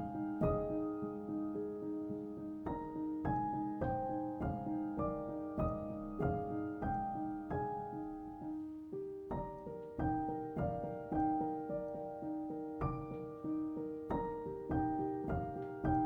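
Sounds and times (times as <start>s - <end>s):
soft solo piano music: 0.0s - 16.0s.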